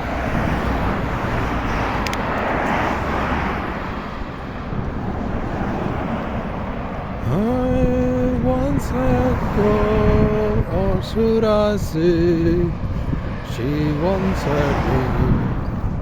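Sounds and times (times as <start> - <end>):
wind and bicycle road noise: 0.0 - 16.0.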